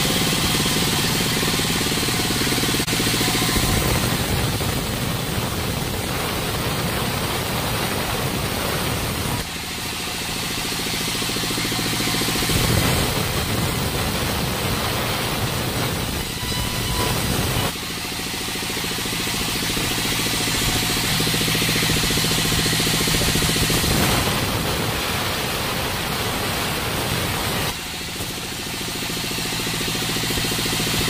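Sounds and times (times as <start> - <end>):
band saw ripping wood: 0.0 - 31.0.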